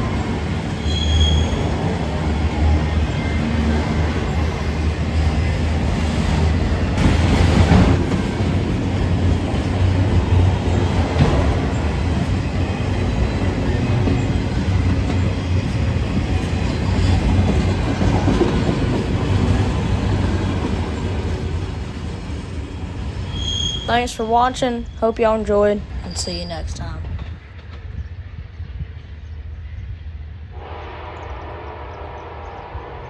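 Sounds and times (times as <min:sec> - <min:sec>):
freight train rumbling: 0:00.0 - 0:33.0.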